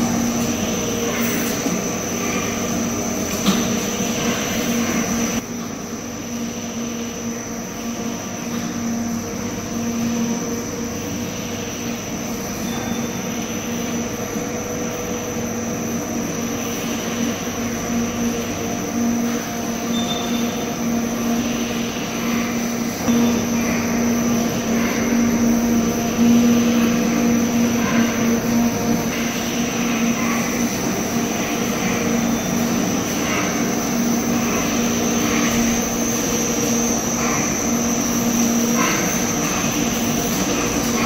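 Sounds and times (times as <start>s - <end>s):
low machine drone: 0.0s - 41.0s
machinery mechanical hum: 0.0s - 41.0s
thin high whine: 0.0s - 41.0s.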